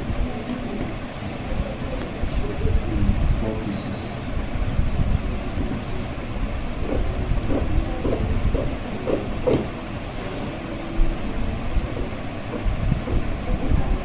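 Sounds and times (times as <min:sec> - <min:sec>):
low background rumble: 0:02.2 - 0:14.0.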